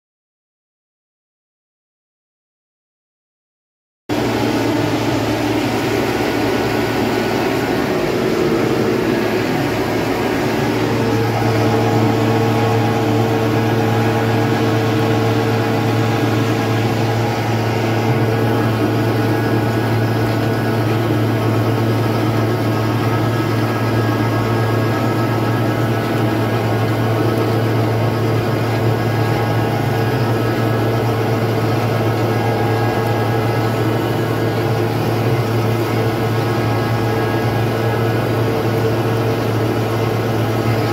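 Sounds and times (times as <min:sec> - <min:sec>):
tractor engine running: 0:04.1 - 0:40.9.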